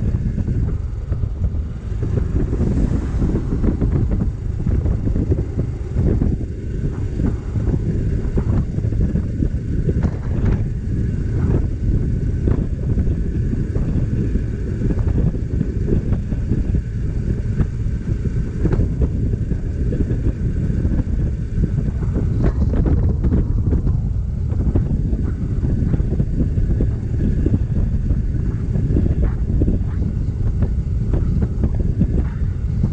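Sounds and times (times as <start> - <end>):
road and engine noise: 0.0 - 32.9
wind buffeting microphone: 0.0 - 32.9.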